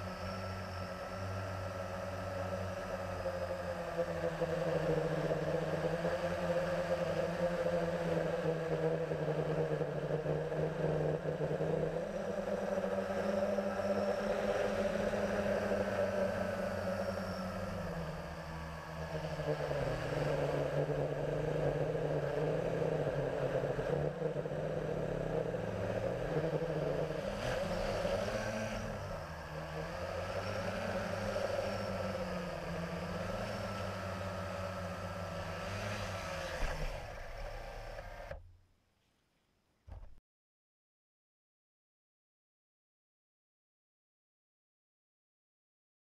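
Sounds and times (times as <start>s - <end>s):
quadcopter propellers whirring: 0.0s - 38.4s.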